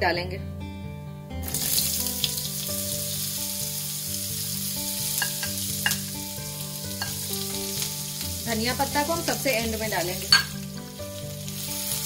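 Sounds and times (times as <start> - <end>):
onion sizzling in hot oil: 1.4 - 12.0.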